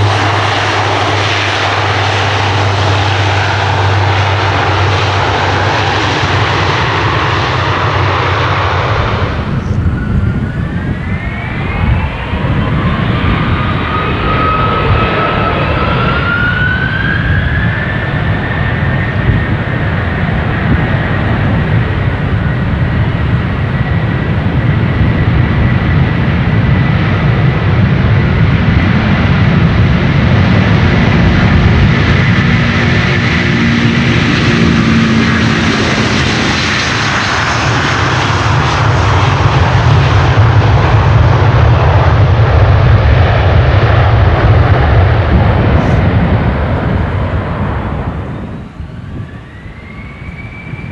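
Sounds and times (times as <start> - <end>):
deep engine rumble: 0.0 - 50.9
jet engine whine: 0.0 - 50.9.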